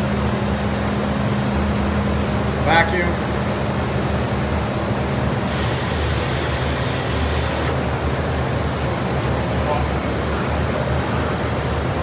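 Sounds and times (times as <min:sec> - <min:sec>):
vacuum system hum and air hiss: 0:00.0 - 0:12.0.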